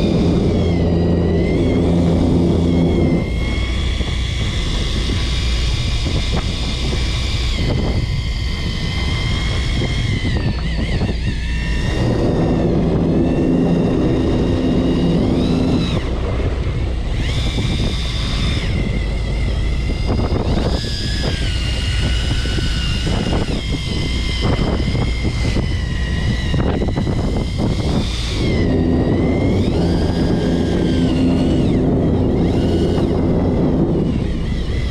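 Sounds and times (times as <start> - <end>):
boat engine running: 0.0 - 34.9
high motor whine: 0.0 - 34.9.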